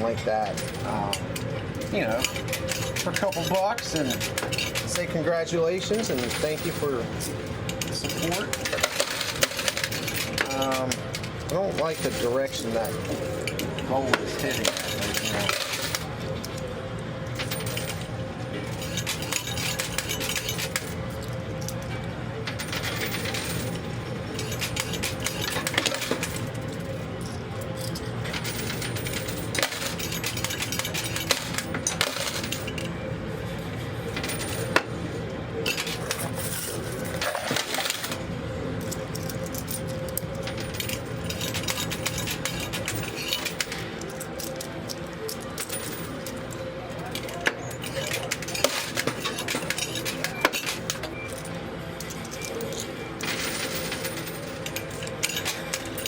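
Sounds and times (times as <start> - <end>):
coins clinking and dropping: 0.1 - 33.0, 34.0 - 56.0.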